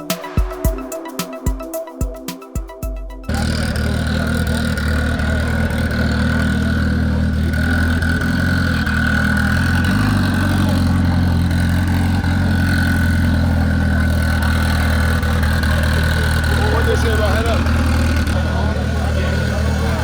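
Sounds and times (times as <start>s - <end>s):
car engine idling: 3.3s - 20.0s.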